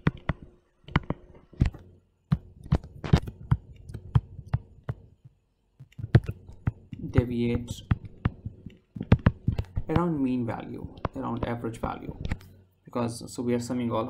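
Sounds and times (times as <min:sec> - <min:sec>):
stylus tapping on tablet screen: 0:00.0 - 0:12.5.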